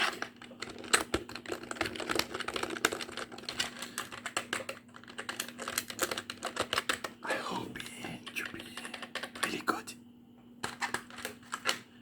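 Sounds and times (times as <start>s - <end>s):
fast typing on keyboard: 0.0s - 7.2s, 8.3s - 9.7s, 10.6s - 11.8s.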